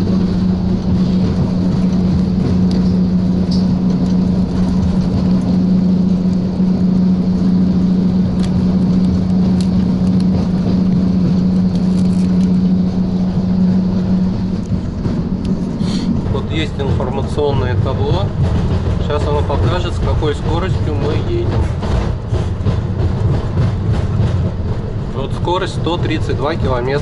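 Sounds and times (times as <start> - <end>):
strong low hum: 0.0 - 27.0
train interior rumble: 0.0 - 27.0.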